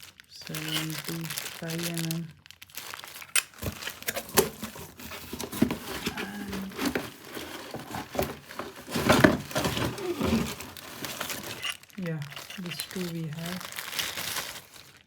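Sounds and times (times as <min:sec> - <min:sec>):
packaging crinkling: 0:00.0 - 0:15.0
packaging rustle: 0:00.0 - 0:15.0.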